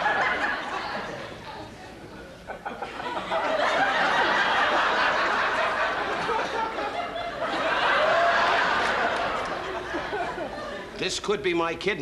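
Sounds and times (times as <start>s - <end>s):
group of people laughing: 0.0s - 11.0s.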